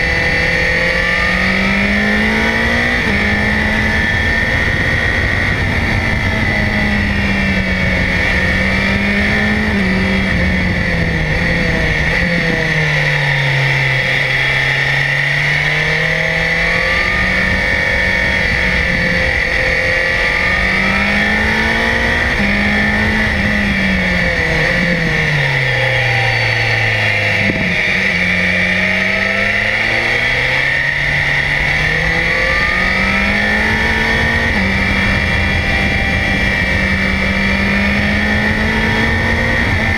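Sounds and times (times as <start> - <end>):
motorcycle engine revving: 0.0 - 39.9
steady rushing noise: 0.0 - 39.9.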